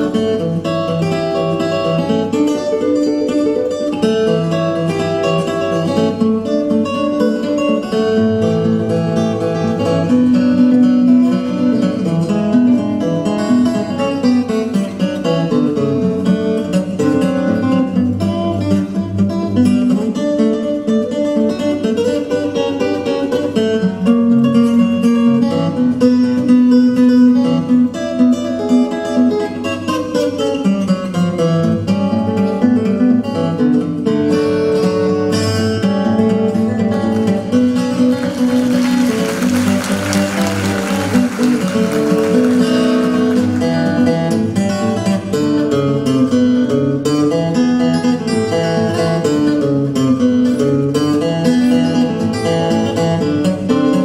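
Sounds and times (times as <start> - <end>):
acoustic guitar melody: 0.0 - 54.0.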